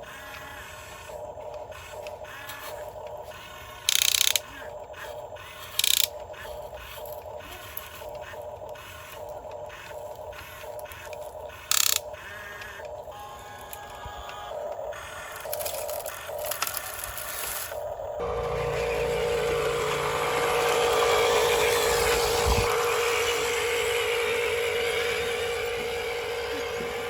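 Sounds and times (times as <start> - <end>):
toy motor with clicking gears: 0.0 - 27.0.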